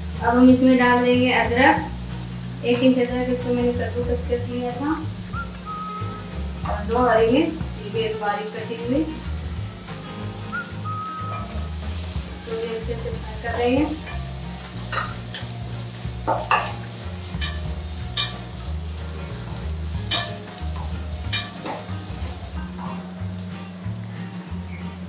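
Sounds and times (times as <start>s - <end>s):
wooden spatula scraping pan: 0.0s - 23.2s
masala sizzling in oil: 0.0s - 25.0s.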